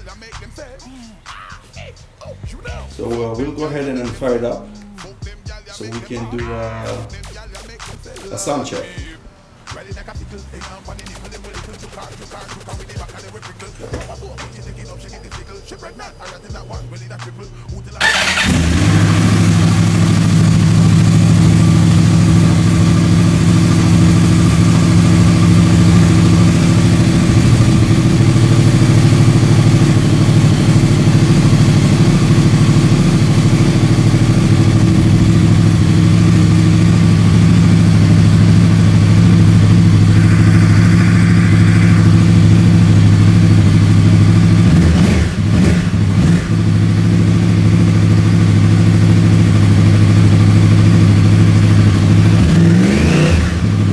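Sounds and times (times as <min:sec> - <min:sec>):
motorcycle engine idling: 0:00.0 - 0:09.1, 0:09.7 - 0:52.8.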